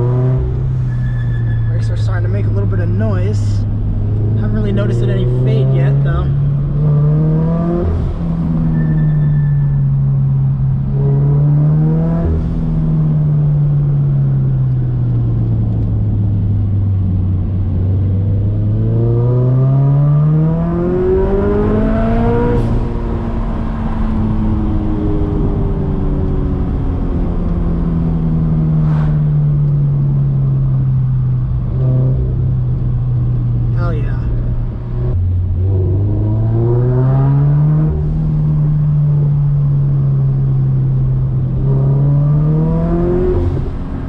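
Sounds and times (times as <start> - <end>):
car engine accelerating: 0.0 - 44.0.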